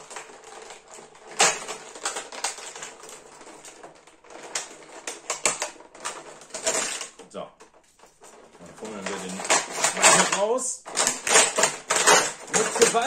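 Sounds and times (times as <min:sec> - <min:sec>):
plastic tray crinkling: 0:00.0 - 0:13.0.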